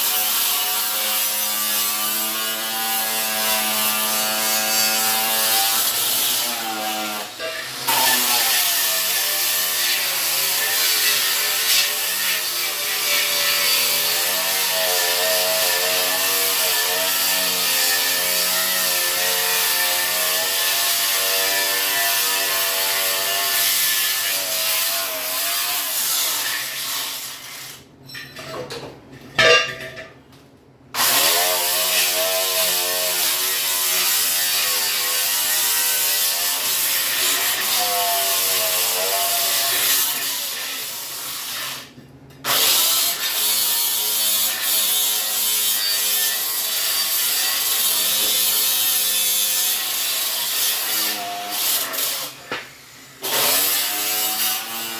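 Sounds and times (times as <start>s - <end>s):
electric grinder on steel: 0.0s - 27.8s, 31.0s - 54.9s.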